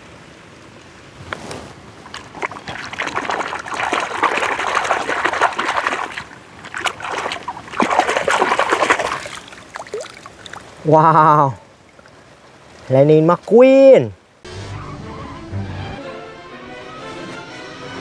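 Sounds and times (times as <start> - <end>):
water splashing and sloshing: 0.0 - 14.4.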